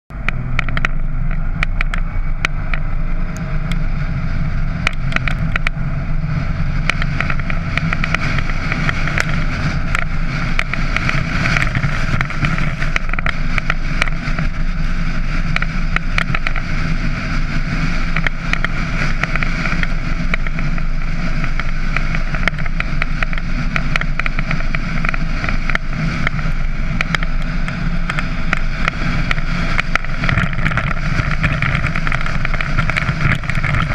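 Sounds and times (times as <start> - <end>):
engine and tyres rumbling: 0.0 - 33.9
wind hissing across microphone: 0.2 - 33.9.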